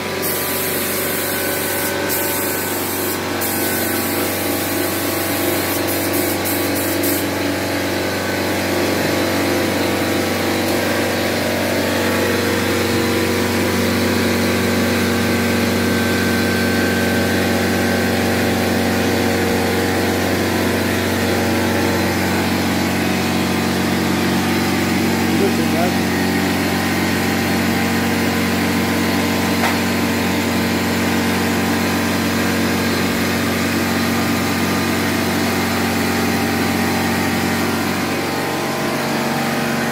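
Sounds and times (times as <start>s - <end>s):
fan motor running: 0.0s - 39.9s.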